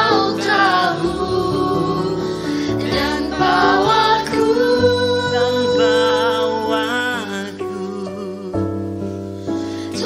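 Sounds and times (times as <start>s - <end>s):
person singing: 0.0s - 8.9s.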